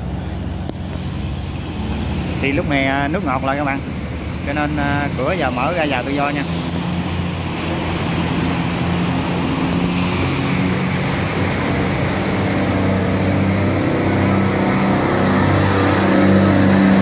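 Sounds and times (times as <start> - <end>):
boat engine droning: 0.0 - 17.0
bow wave rushing along hull: 0.0 - 17.0.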